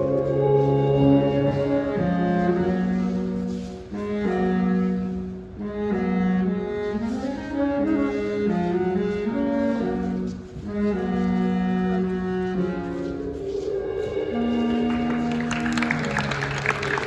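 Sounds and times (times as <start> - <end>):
wind ensemble playing slow chords: 0.0 - 17.0.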